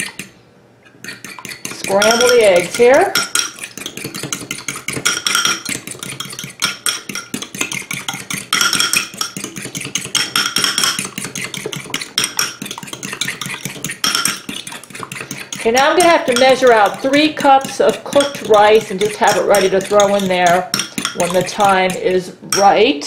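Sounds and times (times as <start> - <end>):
fork beating eggs in bowl: 0.0 - 22.9.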